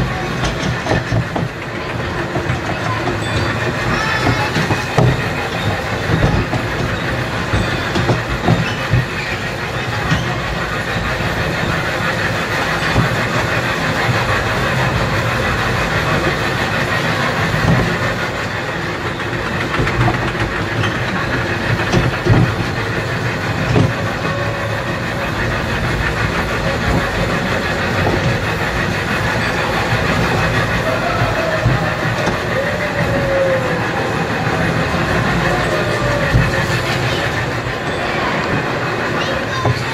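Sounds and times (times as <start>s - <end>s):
train ride carriages rumbling: 0.0s - 39.9s
wheels knocking on rails: 0.0s - 39.9s.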